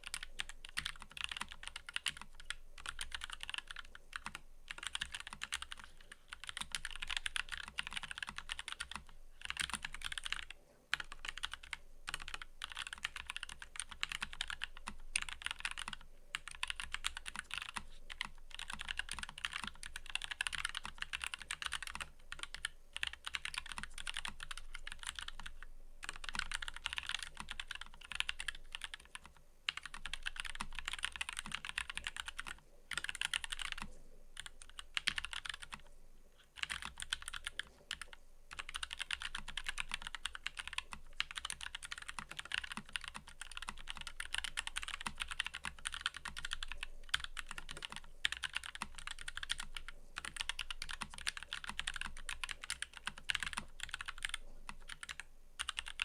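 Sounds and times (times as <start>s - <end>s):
mechanical keyboard typing: 0.0s - 35.9s, 36.6s - 56.0s.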